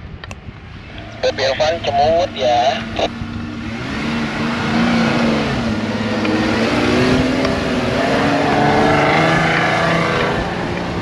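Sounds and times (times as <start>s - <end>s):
vehicle engine revving: 0.6s - 11.0s.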